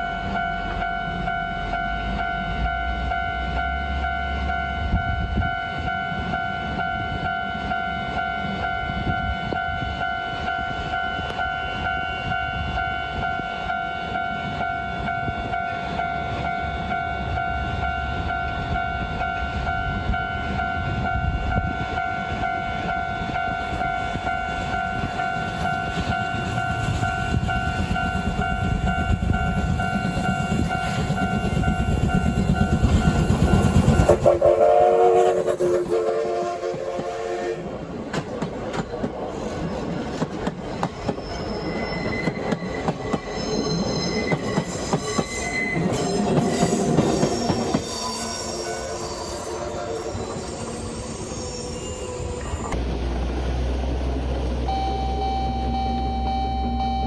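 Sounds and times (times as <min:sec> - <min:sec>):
level crossing warning bell: 0:00.0 - 0:34.1, 0:43.1 - 0:52.8, 0:54.7 - 0:57.0
train whistle: 0:00.0 - 0:37.8, 0:41.1 - 0:52.8
train rumbling over rails: 0:00.0 - 0:56.9.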